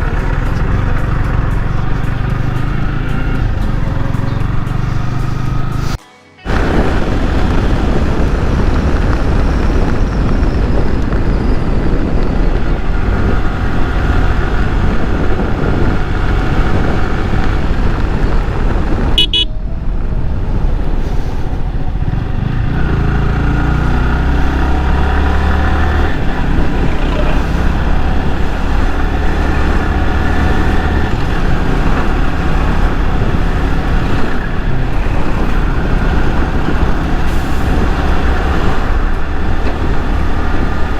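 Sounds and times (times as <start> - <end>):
motorcycle engine at speed: 0.0 - 40.9
road traffic: 0.0 - 40.9
wind noise on microphone: 0.0 - 40.9.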